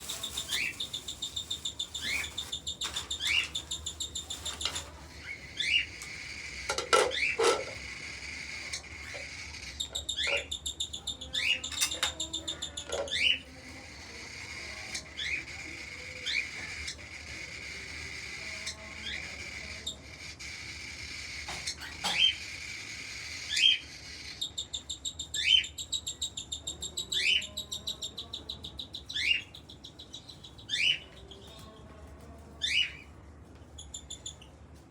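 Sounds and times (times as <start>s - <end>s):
bird chicks chirping: 0.0s - 31.9s.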